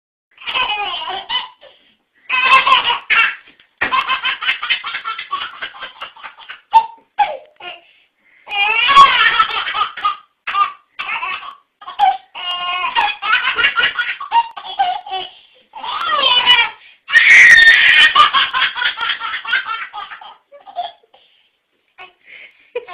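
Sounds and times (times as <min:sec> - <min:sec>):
baby laughing: 0:00.4 - 0:07.8, 0:08.5 - 0:21.2.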